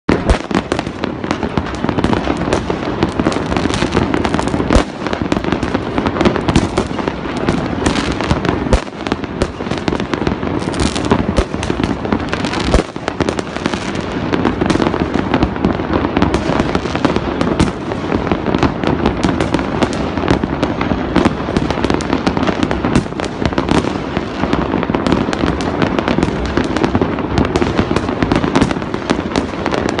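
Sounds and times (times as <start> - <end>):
fireworks exploding: 0.1 - 30.0.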